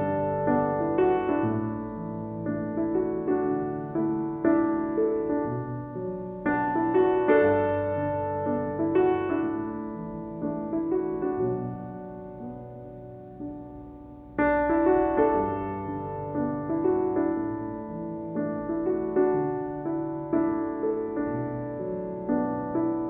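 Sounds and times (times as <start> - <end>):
soft slow piano music: 0.0 - 23.0.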